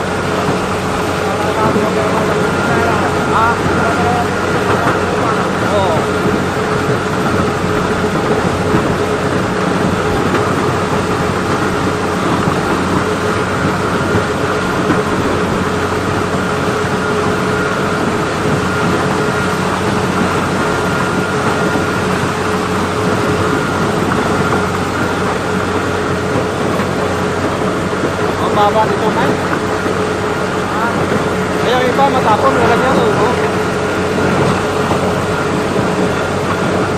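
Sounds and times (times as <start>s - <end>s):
dense rushing noise: 0.0s - 36.9s
engine hum: 0.0s - 36.9s.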